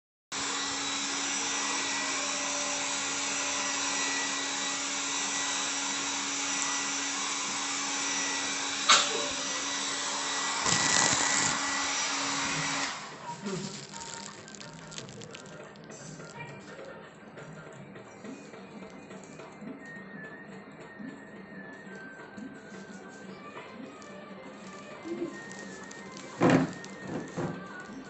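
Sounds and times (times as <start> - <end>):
electric device motor humming: 0.4 - 16.8, 21.4 - 28.0.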